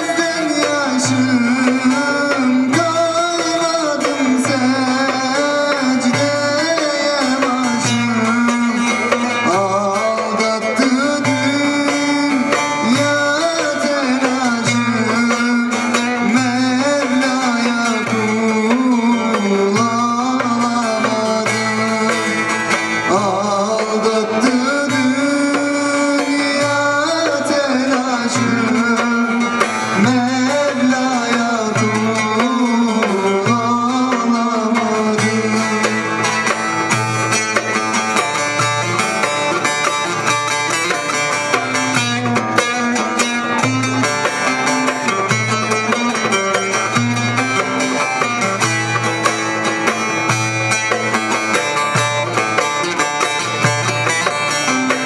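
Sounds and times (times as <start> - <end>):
man singing into a microphone: 0.0 - 37.2, 38.2 - 49.3
hand drum rhythm: 0.0 - 55.0
long-necked lute: 0.0 - 55.0.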